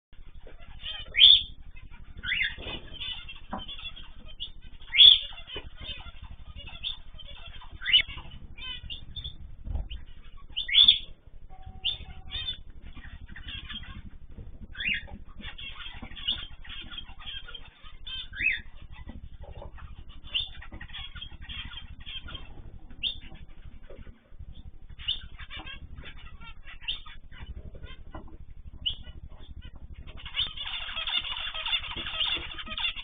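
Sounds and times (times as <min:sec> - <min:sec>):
cage birds chirping: 0:00.2 - 0:33.0
steady low hum: 0:00.2 - 0:33.0.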